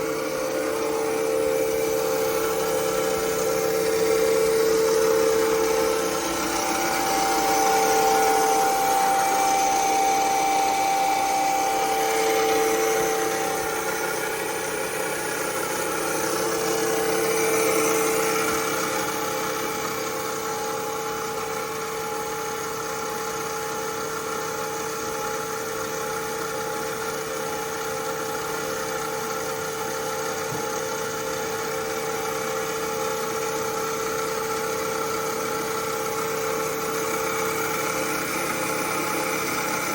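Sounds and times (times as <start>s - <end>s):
grinder machine whine: 0.0s - 39.9s.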